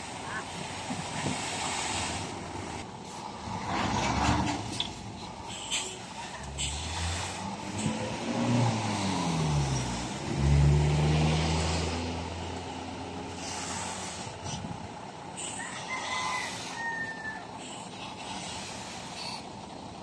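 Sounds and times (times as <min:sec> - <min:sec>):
truck diesel engine revving: 0:00.1 - 0:16.9, 0:17.5 - 0:20.0.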